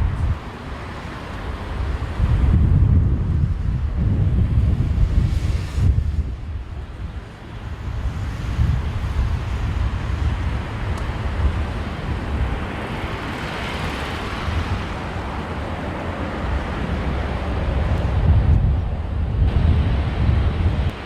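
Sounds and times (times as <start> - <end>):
jet engines roaring: 0.0 - 21.0
wind buffeting microphone: 0.0 - 21.0.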